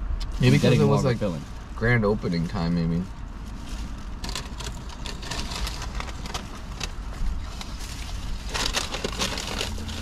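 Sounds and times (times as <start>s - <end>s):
eating from take-out containers: 0.2s - 10.0s.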